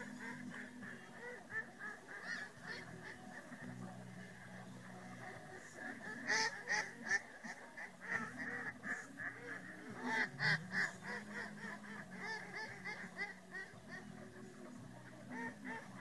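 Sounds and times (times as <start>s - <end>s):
flock of waterfowl calling: 0.0s - 16.0s.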